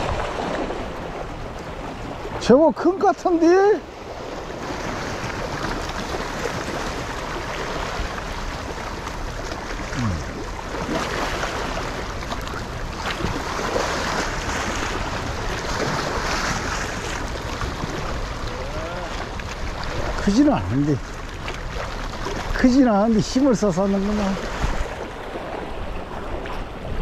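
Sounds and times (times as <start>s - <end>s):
waves splashing over rocks: 0.0s - 27.0s.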